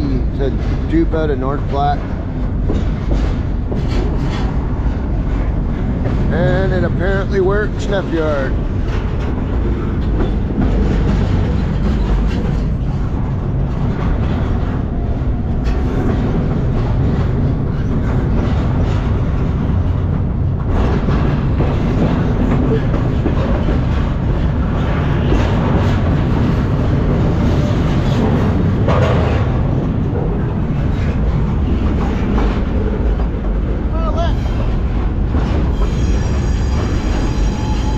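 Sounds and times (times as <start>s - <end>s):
train rumbling and rattling on rails: 0.0s - 37.9s.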